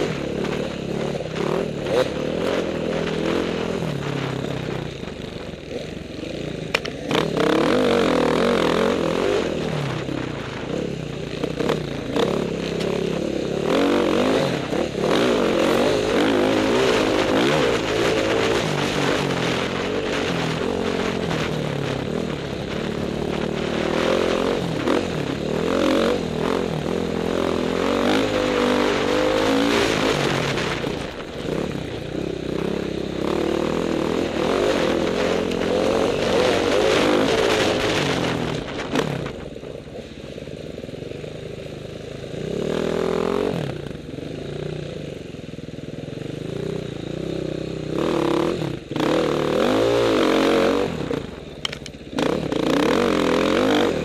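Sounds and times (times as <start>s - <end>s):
dirt bike engine revving: 0.0s - 39.5s, 42.4s - 44.9s, 46.4s - 54.0s.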